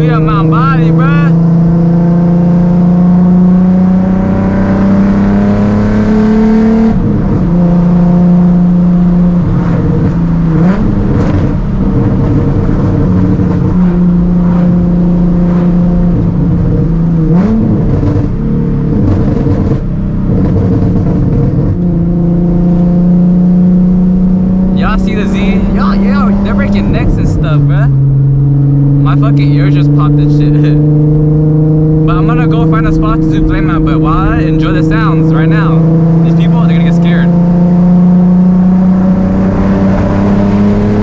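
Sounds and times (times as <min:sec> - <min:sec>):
car exhaust drone while driving: 0:00.0 - 0:41.0.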